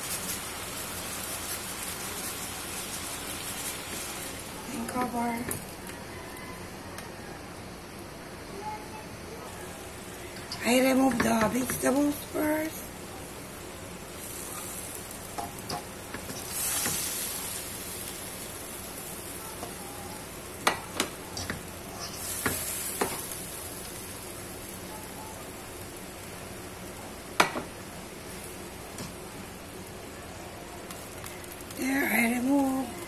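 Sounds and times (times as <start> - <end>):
food sizzling in a wok: 0.0 - 6.6, 9.5 - 33.0.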